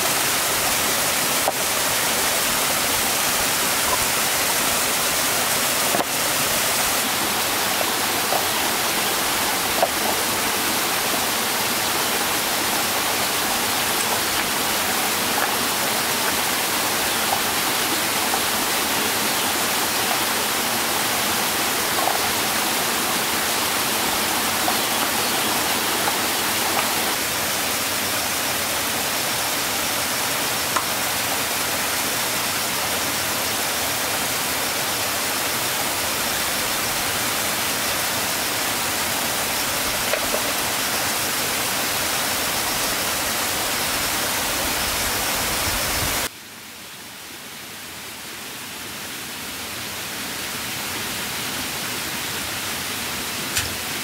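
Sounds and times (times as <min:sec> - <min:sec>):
rushing water: 0:00.0 - 0:46.4, 0:47.2 - 0:54.0.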